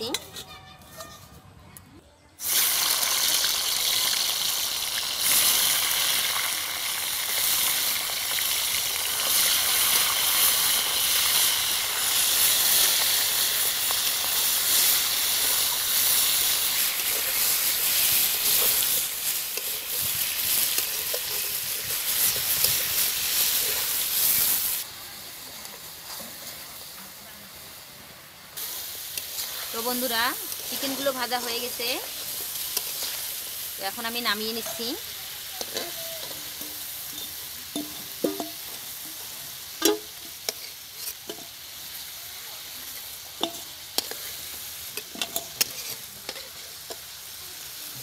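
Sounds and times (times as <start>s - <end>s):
chicken sizzling in hot oil: 2.4s - 48.0s.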